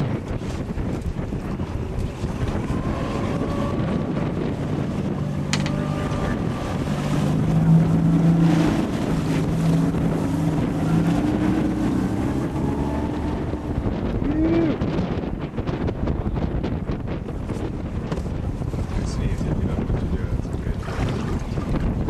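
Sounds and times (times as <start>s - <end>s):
boat motor running: 0.0s - 22.0s
wind buffeting microphone: 0.0s - 22.0s.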